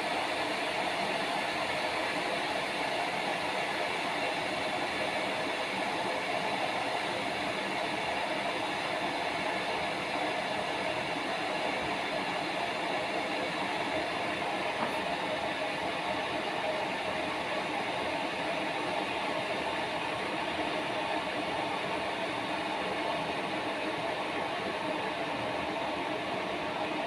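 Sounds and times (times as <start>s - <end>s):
electric kettle heating water: 0.0s - 27.0s.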